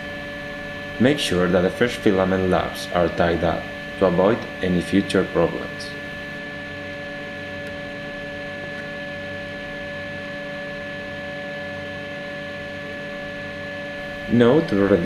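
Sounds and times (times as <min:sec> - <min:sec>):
constant whining tones: 0:00.0 - 0:15.0
extruder motor hum: 0:00.0 - 0:15.0.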